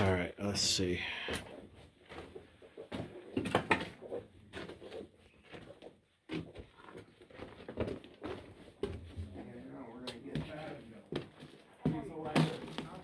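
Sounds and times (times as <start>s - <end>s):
footsteps on loose rock and planks: 1.2s - 13.0s
scuffs and clatters: 1.2s - 13.0s.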